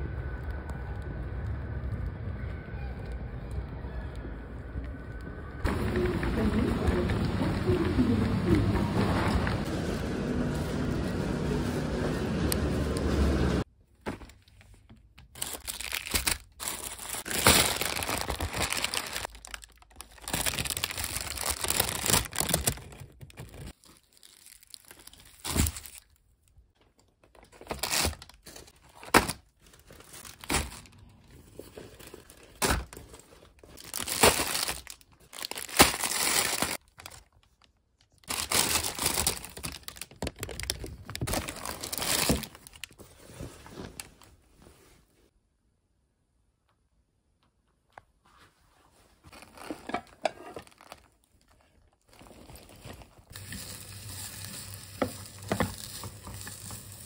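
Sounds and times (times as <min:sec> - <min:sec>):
grocery bags rustling: 0:04.9 - 0:26.2, 0:27.2 - 0:45.1, 0:49.2 - 0:57.0.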